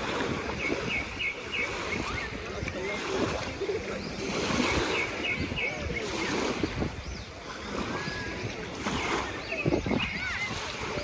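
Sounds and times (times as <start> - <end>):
surf washing on beach: 0.0 - 11.0
wind on microphone: 0.0 - 11.0.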